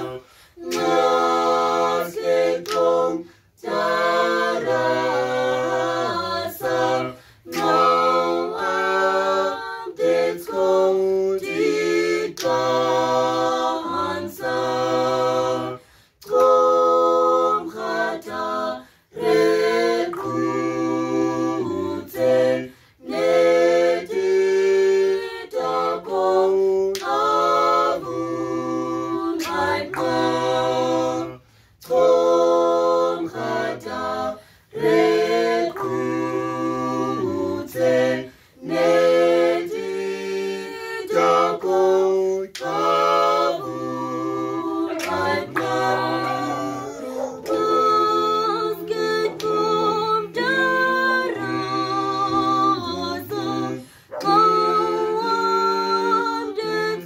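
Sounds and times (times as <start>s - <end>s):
voices singing in harmony: 0.0s - 57.0s.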